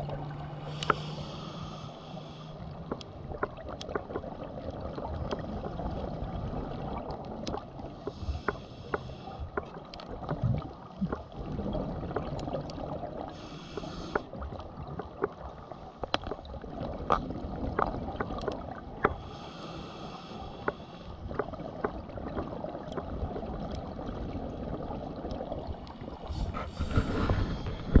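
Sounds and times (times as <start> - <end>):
low underwater rush: 0.0 - 28.0.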